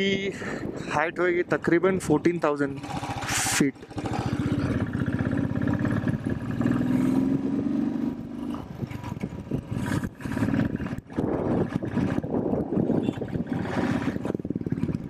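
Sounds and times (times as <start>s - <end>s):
motorcycle engine running: 2.1s - 15.0s.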